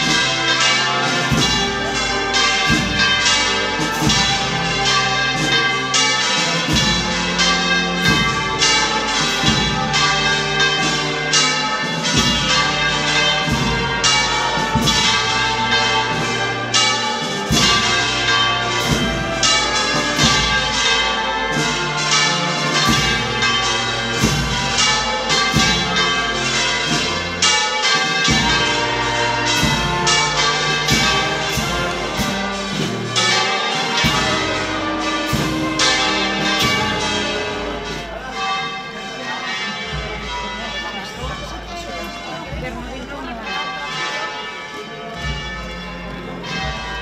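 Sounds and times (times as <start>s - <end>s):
church bells pealing: 0.0s - 47.0s.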